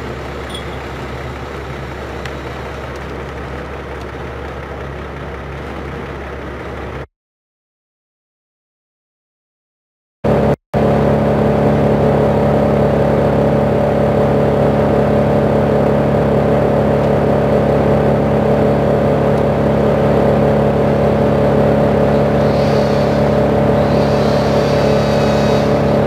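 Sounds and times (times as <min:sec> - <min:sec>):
large engine running: 0:00.0 - 0:07.1, 0:10.3 - 0:26.0.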